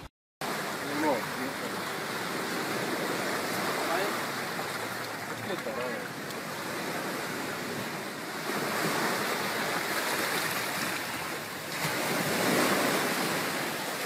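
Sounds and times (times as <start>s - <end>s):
waves washing onto rocky beach: 0.4s - 14.0s.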